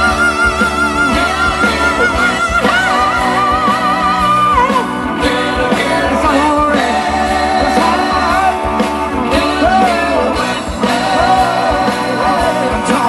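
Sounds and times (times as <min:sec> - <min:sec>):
live rock band: 0:00.0 - 0:13.0
steady drum beat: 0:00.0 - 0:13.0.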